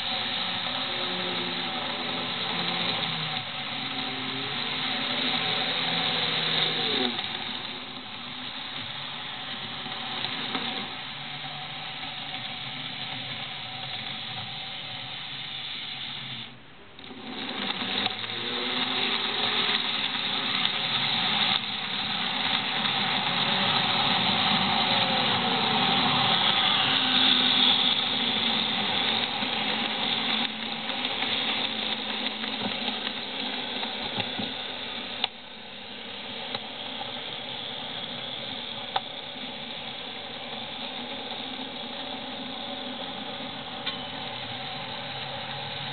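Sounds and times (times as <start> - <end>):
model train wheels rolling on track: 0.0 - 45.9
small electric motors whirring: 0.0 - 45.9.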